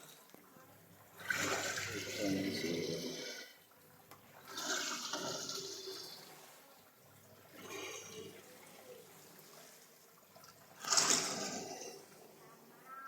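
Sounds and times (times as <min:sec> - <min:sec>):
water rushing in washing machine tub: 0:00.8 - 0:03.6, 0:04.2 - 0:12.7.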